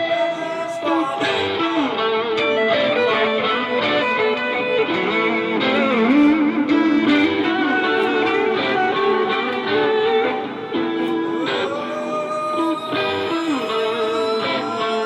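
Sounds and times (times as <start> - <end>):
plucked guitar with bending notes: 0.0 - 15.0.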